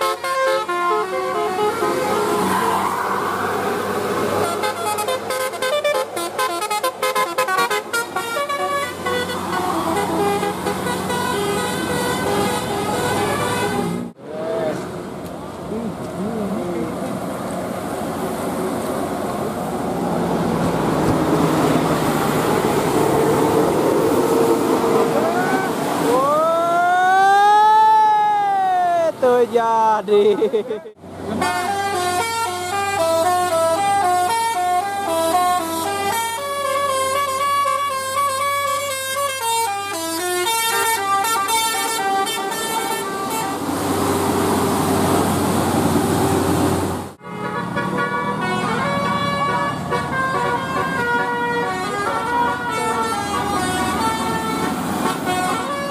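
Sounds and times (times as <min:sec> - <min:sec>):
bus passing: 0:00.0 - 0:55.9.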